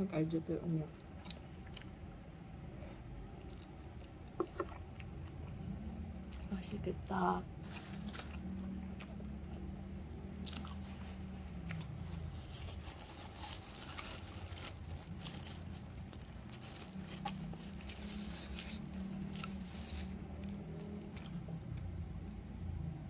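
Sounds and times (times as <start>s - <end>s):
low hum: 0.0s - 23.0s
chewing: 1.0s - 6.6s, 7.7s - 22.5s.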